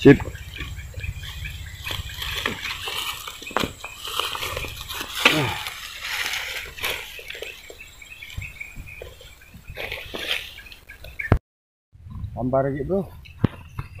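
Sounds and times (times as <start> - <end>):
loud falling bird call: 0.0 - 11.3
small birds chirping: 0.0 - 11.4, 12.0 - 14.0.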